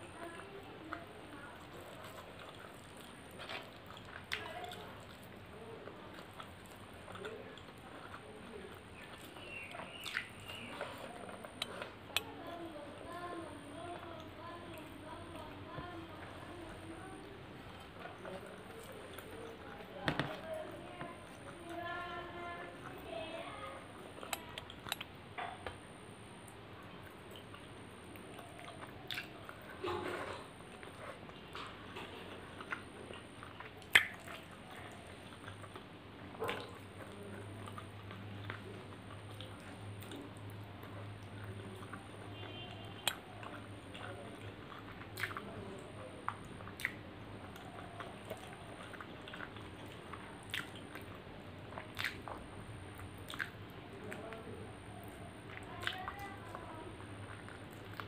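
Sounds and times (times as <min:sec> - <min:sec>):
fingers squelching food: 0:00.1 - 0:25.8, 0:26.4 - 0:58.0
person chewing: 0:00.2 - 0:12.4, 0:13.0 - 0:23.0, 0:23.8 - 0:25.8, 0:26.4 - 0:58.0.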